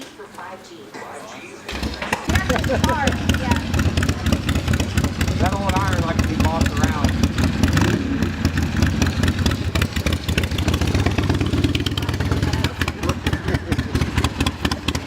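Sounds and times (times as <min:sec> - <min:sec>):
people talking: 0:00.0 - 0:07.5, 0:09.0 - 0:15.0
motorcycle engine idling: 0:01.7 - 0:15.0.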